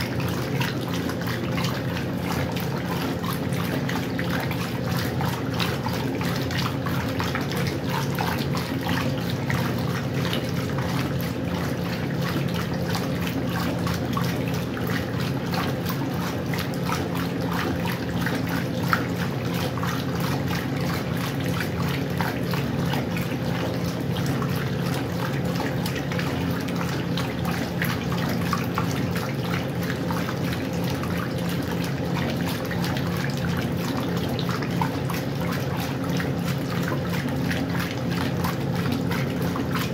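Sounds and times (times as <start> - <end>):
washing machine low hum: 0.0 - 39.9
water running into washing machine: 0.0 - 39.9.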